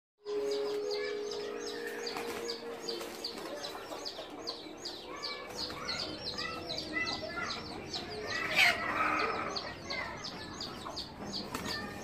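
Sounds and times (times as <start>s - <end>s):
chickens calling: 0.3s - 12.0s.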